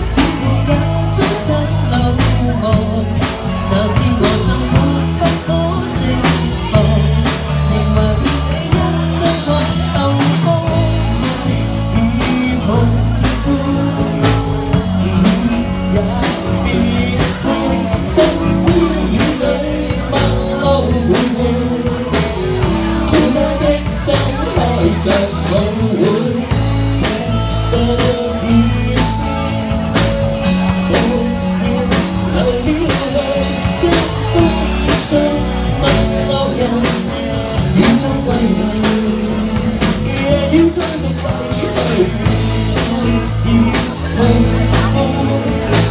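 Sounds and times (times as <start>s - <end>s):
drum kit beat: 0.0s - 45.9s
live band playing pop ballad: 0.0s - 45.9s.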